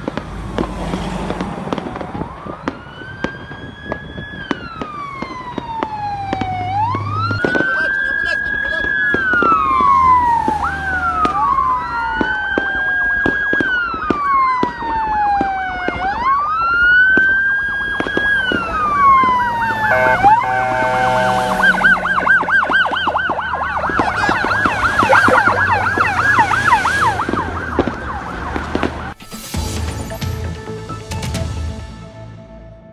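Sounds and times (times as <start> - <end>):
siren slow wail: 0.0 - 29.2
engine and road noise: 0.0 - 32.9
siren fast yelp: 2.2 - 29.2.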